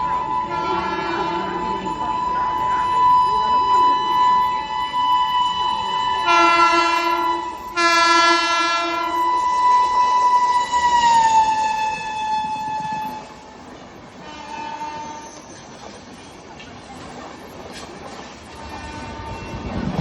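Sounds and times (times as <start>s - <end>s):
locomotive horn blasts: 0.0s - 13.5s, 14.2s - 15.5s, 18.5s - 19.8s
train running noise: 0.0s - 20.0s.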